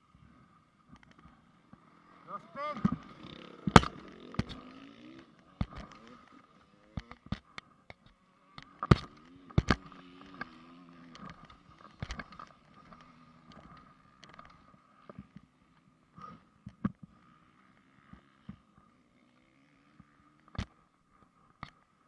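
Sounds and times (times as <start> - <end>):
motorbike engine running: 0.8 - 20.8.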